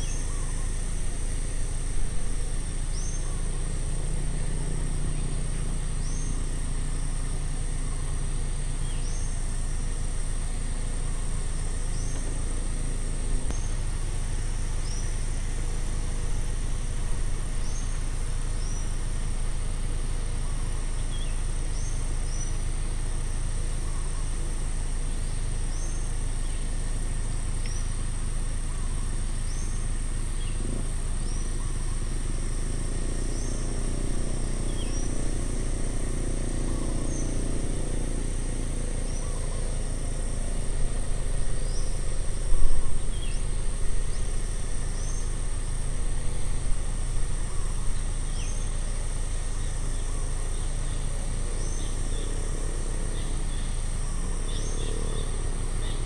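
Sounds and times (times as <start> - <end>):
high insect-like hiss: 0.0 - 56.0.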